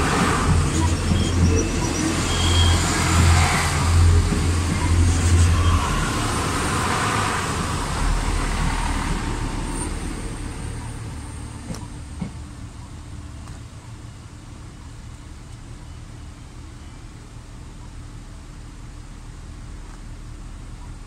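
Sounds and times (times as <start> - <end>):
diesel train passing: 0.0 - 21.0.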